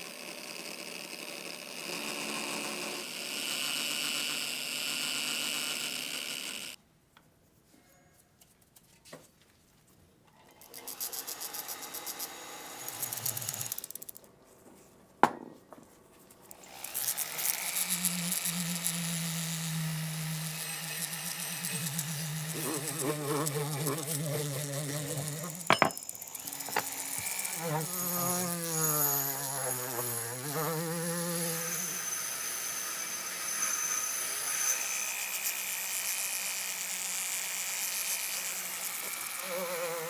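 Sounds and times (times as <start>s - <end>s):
power tool running: 0.0s - 6.8s, 10.6s - 14.0s, 16.5s - 40.0s.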